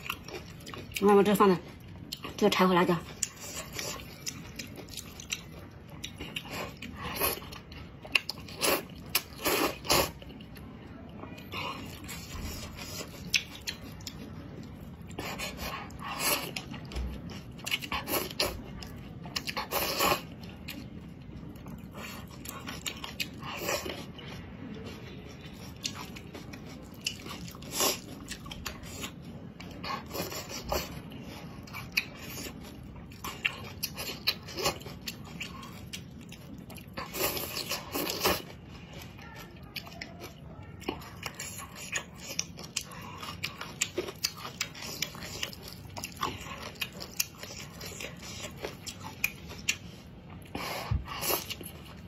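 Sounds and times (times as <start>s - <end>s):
wet chewing: 1.6s - 52.0s.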